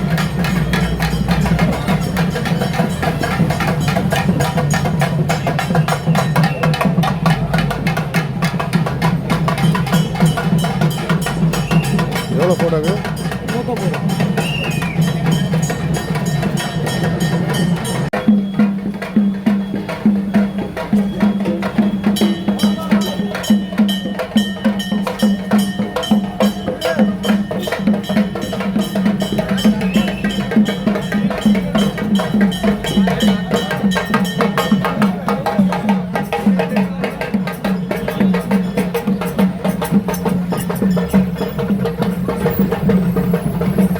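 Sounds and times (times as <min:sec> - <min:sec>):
drums beating fast rhythm: 0:00.0 - 0:43.9.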